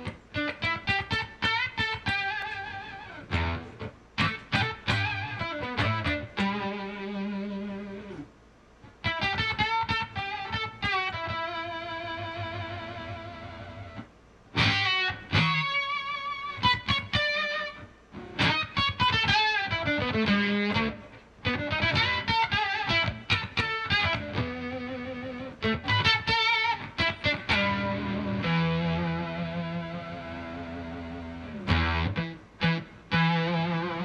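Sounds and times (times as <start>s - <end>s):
fuzz electric guitar: 0.0s - 8.3s, 8.9s - 34.0s.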